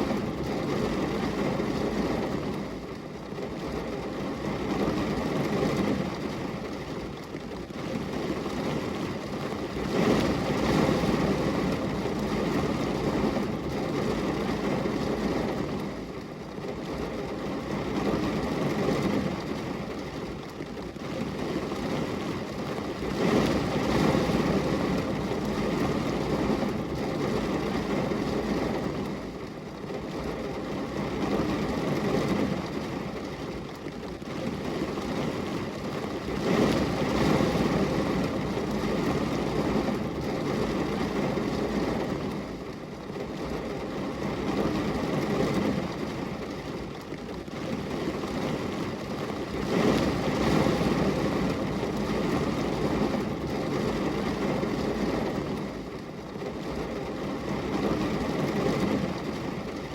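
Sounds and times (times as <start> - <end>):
rain on glass window: 0.0 - 59.9.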